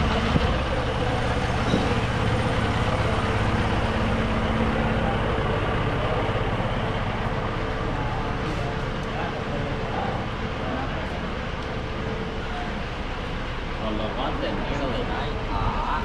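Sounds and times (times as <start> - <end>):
street noise: 0.0 - 16.0
vehicle engine running: 0.0 - 16.0.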